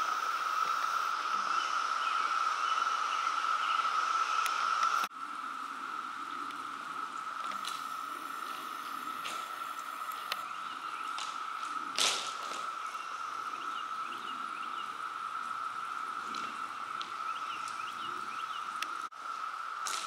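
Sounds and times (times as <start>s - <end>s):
high-pitched drone: 0.0s - 19.1s
faint chirps: 0.0s - 19.5s.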